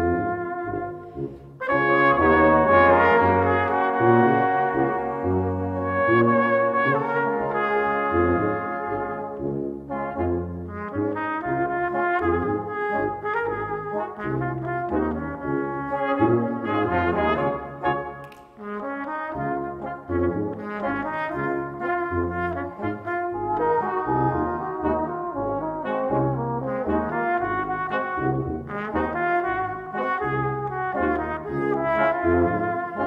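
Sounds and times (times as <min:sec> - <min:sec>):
brass quintet playing: 0:00.0 - 0:33.0
tuba bass line: 0:00.0 - 0:33.0.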